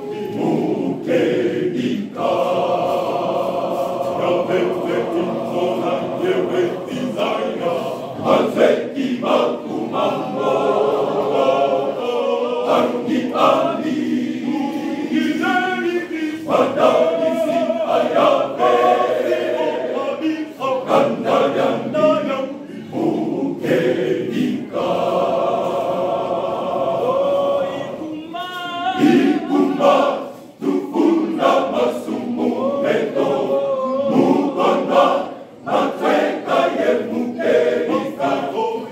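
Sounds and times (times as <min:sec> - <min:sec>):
men's choir singing a cappella: 0:00.0 - 0:38.9.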